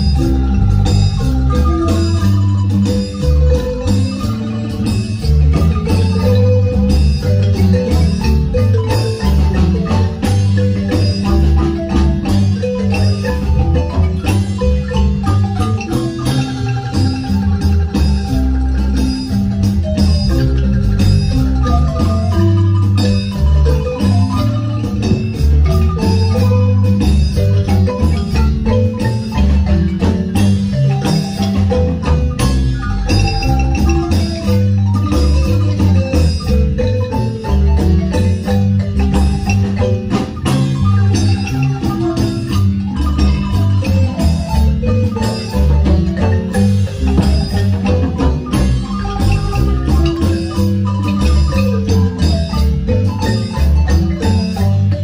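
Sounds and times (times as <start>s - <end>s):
marimba dance music: 0.0s - 55.0s.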